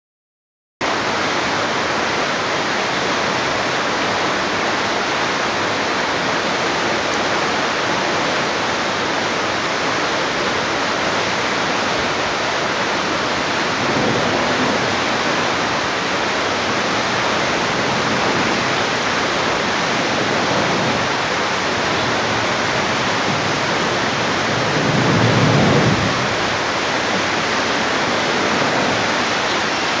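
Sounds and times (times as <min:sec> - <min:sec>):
water rushing from dam outlet: 0:00.8 - 0:30.0.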